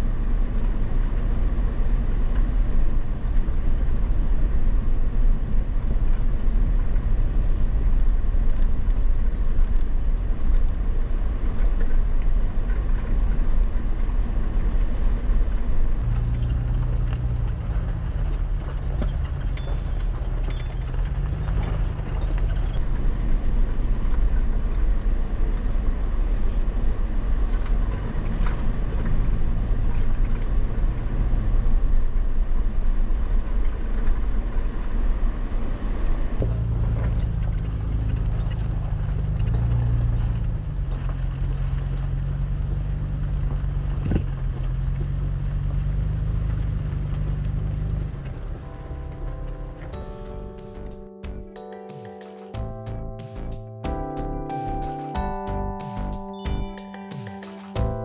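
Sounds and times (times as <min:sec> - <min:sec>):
vehicle engine and road rumble: 0:00.0 - 0:51.5.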